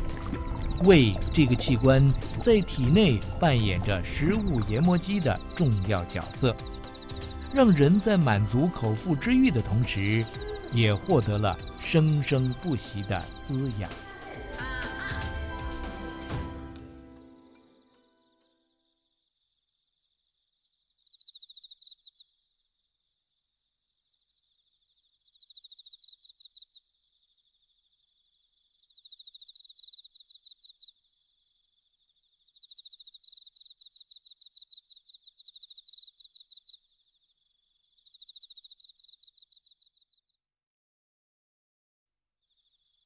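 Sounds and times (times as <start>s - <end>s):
insect chirping trills: 0.0s - 14.3s, 17.1s - 40.4s, 42.4s - 43.0s.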